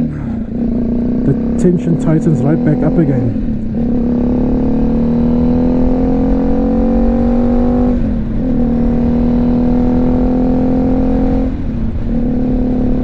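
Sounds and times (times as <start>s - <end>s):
low wind rumble: 0.0s - 13.0s
motorcycle engine running: 0.0s - 13.0s.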